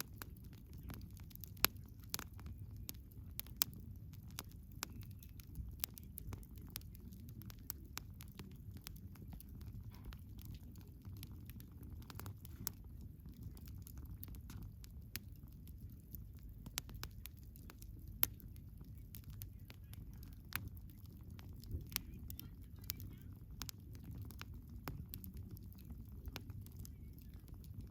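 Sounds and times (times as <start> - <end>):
bonfire crackling and popping: 0.0 - 27.9
fire rumbling: 0.0 - 27.9.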